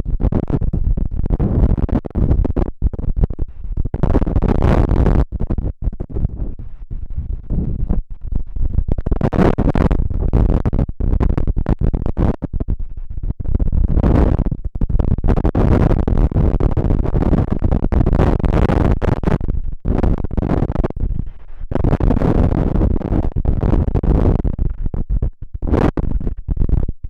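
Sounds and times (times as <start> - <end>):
strong gusting wind on microphone: 0.0 - 27.0.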